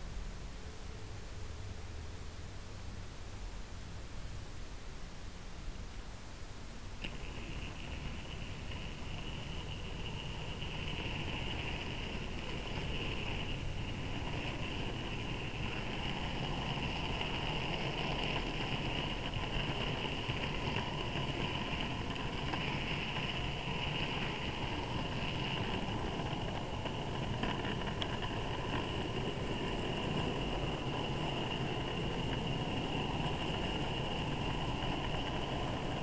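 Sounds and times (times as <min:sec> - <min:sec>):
wagon wheels rumbling on rails: 0:07.0 - 0:36.0.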